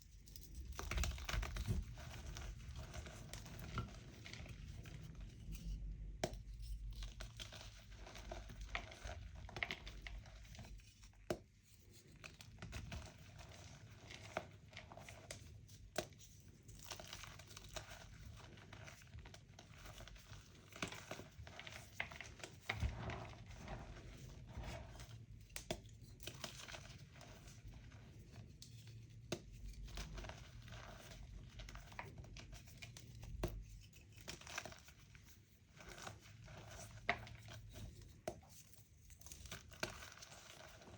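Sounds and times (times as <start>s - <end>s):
chalk crunching and crumbling: 0.2s - 40.9s.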